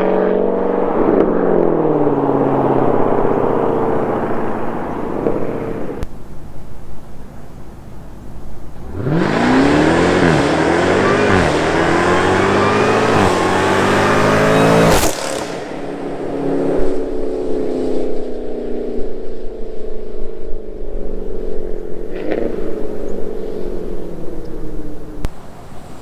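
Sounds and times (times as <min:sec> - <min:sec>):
engine full-throttle with upshifts: 0:00.0 - 0:26.0
sharp exhaust crack: 0:00.0 - 0:26.0.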